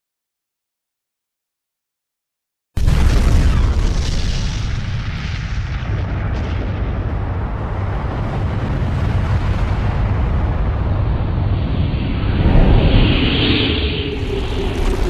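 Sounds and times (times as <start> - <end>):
explosion with heavy bass rumble: 2.8 - 15.0.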